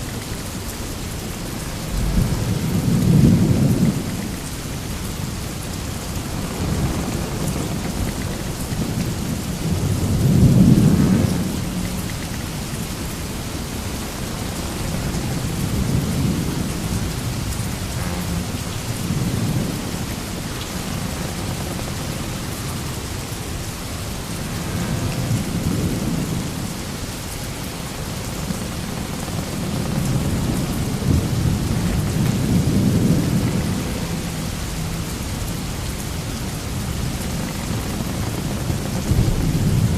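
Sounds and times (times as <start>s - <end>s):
steady rushing noise: 0.0s - 39.9s
low rumbling swells: 1.3s - 39.9s.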